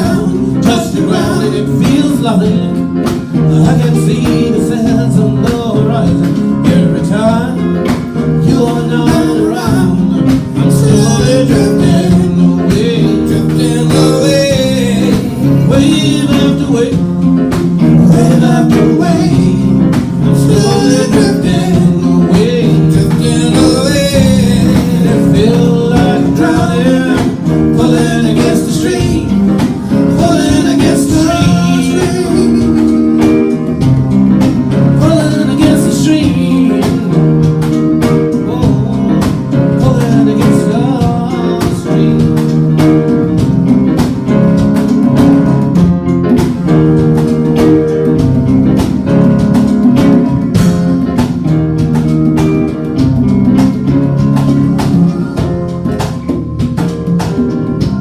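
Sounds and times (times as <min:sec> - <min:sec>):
band playing: 0:00.0 - 0:58.0
guitar strumming chords: 0:00.0 - 0:58.0.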